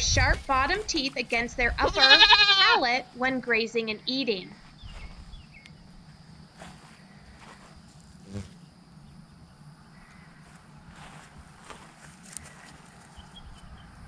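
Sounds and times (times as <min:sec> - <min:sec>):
faint insect chirring: 0:00.0 - 0:14.0.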